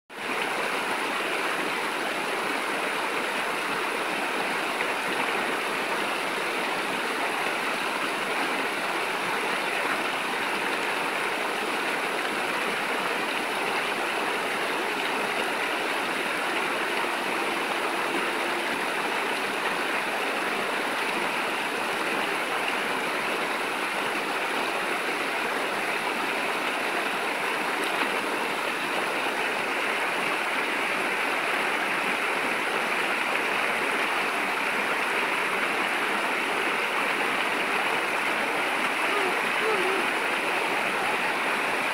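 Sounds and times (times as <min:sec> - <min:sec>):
stream rushing over rocks: 0:00.1 - 0:41.9.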